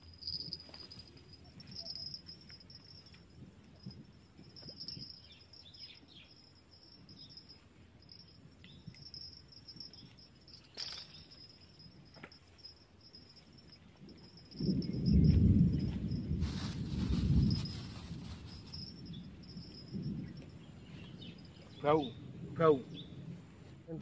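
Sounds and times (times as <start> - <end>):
small chirps: 0.0 - 21.8
faint insect trill: 0.0 - 24.0.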